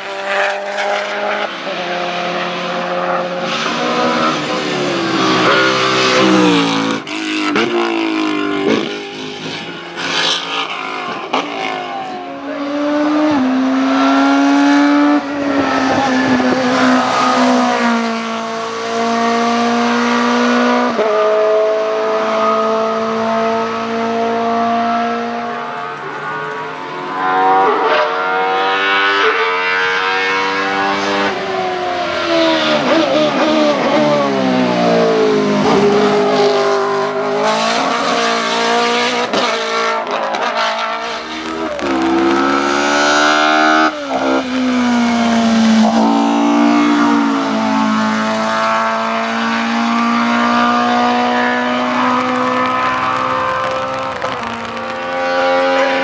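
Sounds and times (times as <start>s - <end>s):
car engine braking and downshifting: 0.0s - 56.0s
race car engine at full throttle: 0.0s - 56.0s.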